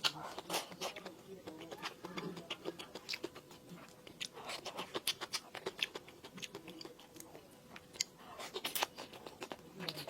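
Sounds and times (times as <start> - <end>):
person chewing and biting: 0.0 - 10.0.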